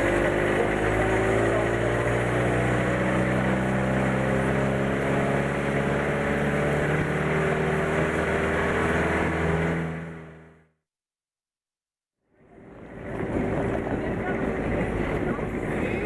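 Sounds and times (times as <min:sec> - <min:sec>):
vehicle engine running: 0:00.0 - 0:10.8, 0:12.2 - 0:16.0.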